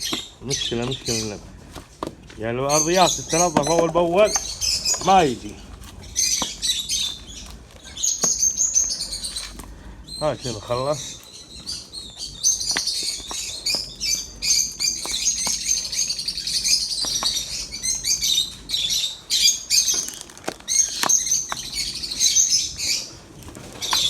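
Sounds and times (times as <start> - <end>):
lovebirds chattering: 0.0 - 24.0.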